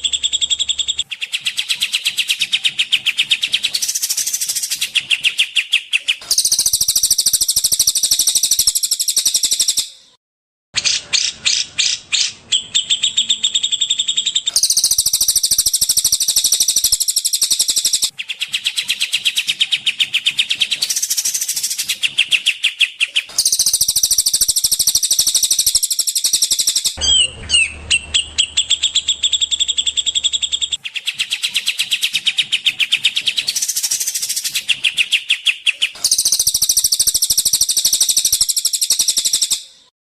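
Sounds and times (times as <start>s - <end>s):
songbird chirping: 0.0s - 10.2s, 10.8s - 39.9s.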